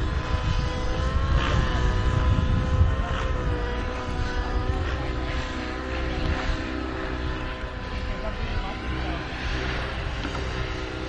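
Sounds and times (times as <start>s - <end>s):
model airplane engine running: 0.0s - 11.0s
wind rumbling on microphone: 0.0s - 11.0s.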